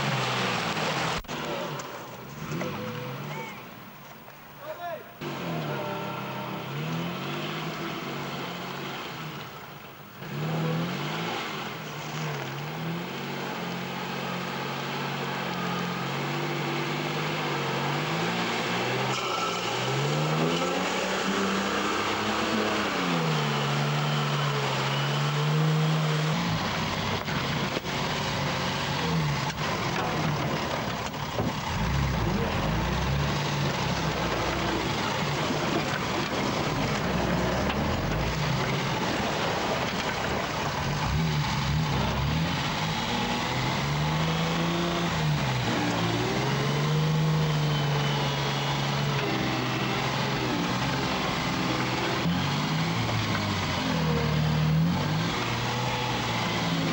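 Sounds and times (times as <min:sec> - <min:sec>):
truck engine labouring: 0:00.0 - 0:56.9.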